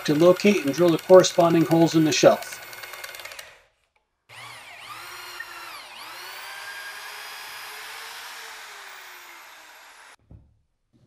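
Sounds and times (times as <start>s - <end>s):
electric drill boring into wood: 0.0s - 3.6s, 4.3s - 10.2s.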